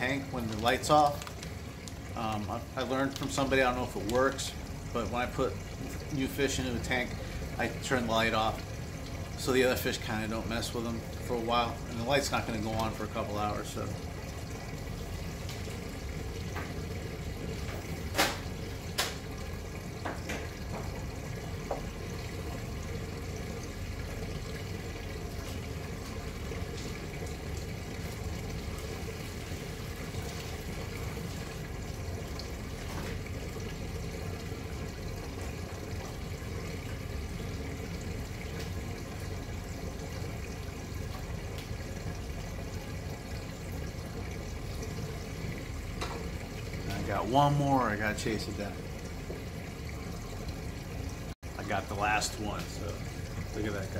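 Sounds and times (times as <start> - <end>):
aquarium water circulating: 0.0 - 53.9.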